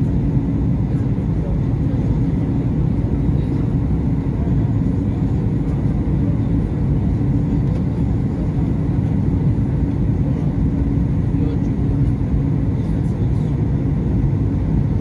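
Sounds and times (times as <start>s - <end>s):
constant hum: 0.0s - 15.0s
jet engine and airflow rumble: 0.0s - 15.0s.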